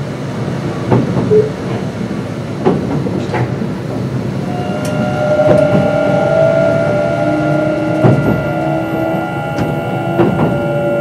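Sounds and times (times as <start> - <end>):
train inverter whine: 0.0 - 11.0
train wheels rumbling: 0.0 - 11.0.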